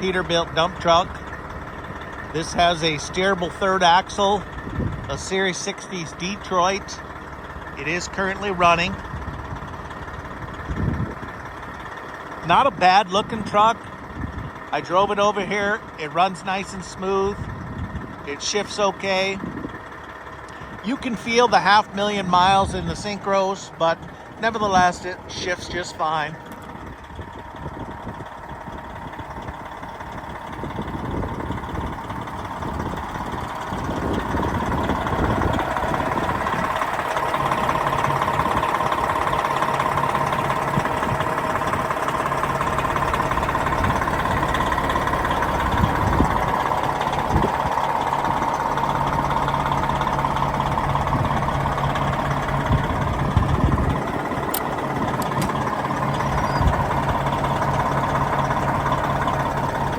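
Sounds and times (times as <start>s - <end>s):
diesel dump truck engine running: 0.0s - 59.9s.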